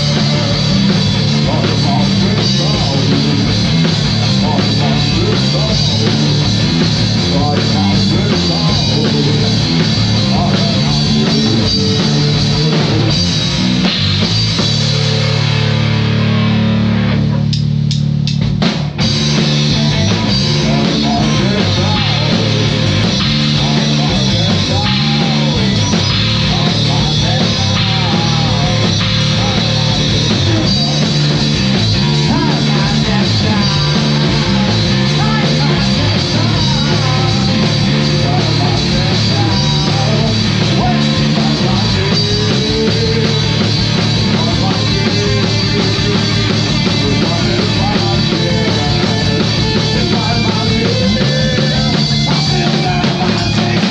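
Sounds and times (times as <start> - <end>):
distorted guitar: 0.0 - 53.9
drum kit: 0.0 - 53.9.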